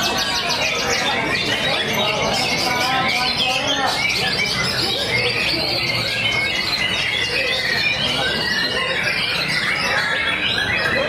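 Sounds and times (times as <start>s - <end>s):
chorus of songbirds whistling: 0.0s - 11.0s.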